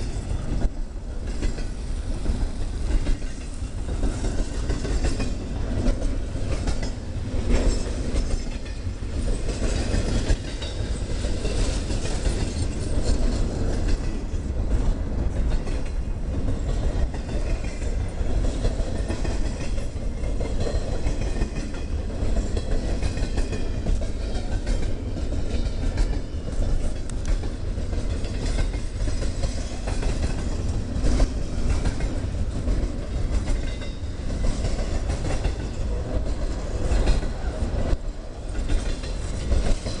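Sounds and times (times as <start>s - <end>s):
freight train rumbling: 0.0s - 40.0s
wheels clacking over rail joints: 0.0s - 40.0s.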